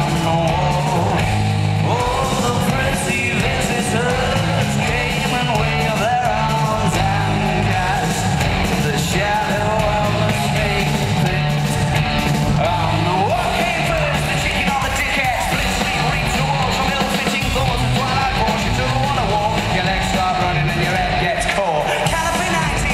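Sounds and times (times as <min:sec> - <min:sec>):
person singing lead: 0:00.0 - 0:12.0, 0:12.6 - 0:22.9
live rock band playing: 0:00.0 - 0:22.9.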